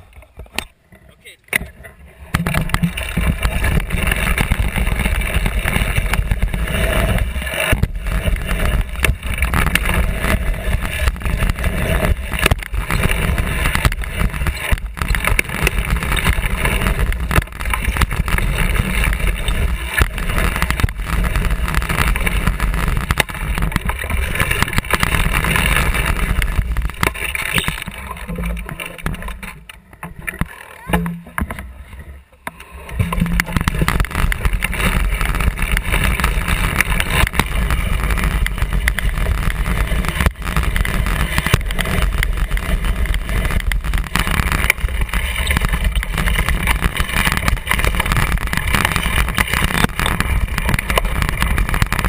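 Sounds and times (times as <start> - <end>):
bike tyres rumbling on dirt: 0.0 - 52.0
bicycle frame rattling: 2.4 - 31.8, 32.9 - 52.0.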